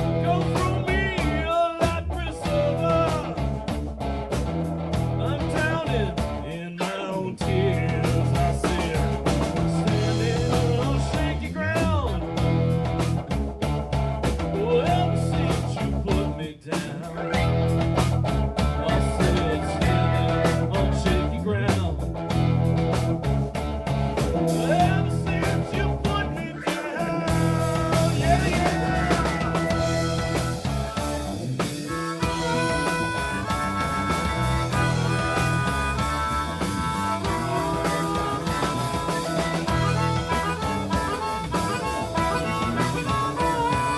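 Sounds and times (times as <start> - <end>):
drum kit beat: 0.0 - 43.9
electric guitar lines: 0.0 - 43.9.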